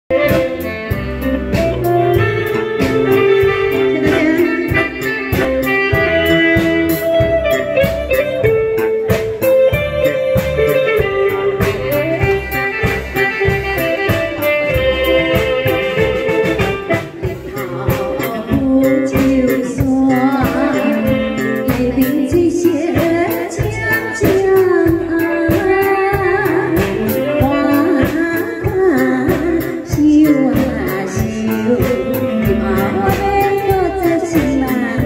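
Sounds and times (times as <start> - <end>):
live band playing pop music: 0.0 - 35.0
electric guitar melody: 0.1 - 35.0
steady drum beat: 0.1 - 35.0.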